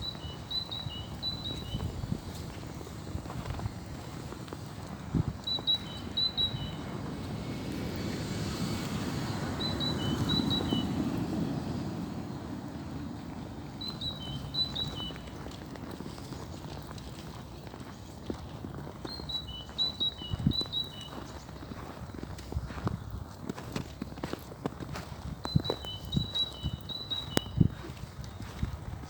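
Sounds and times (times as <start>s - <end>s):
songbird singing: 0.0s - 23.3s, 25.2s - 28.7s.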